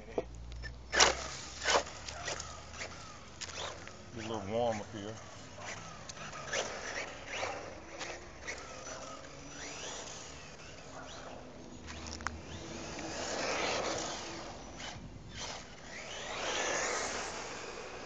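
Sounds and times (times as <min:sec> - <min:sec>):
rc car motor whine: 0:00.0 - 0:18.0.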